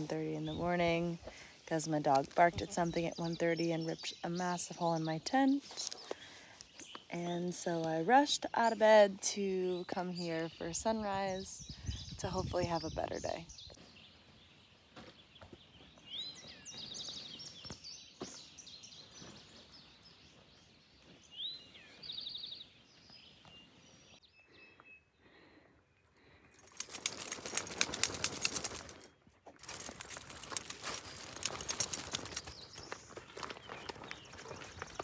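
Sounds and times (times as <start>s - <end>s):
songbirds singing: 0.0s - 35.0s.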